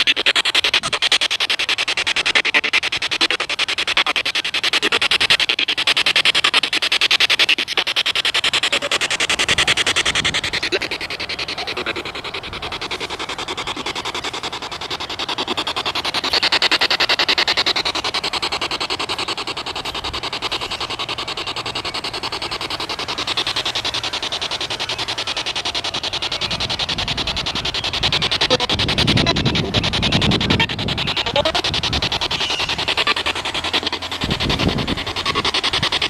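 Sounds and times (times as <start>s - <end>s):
pulsing radio static hiss: 0.0s - 36.0s.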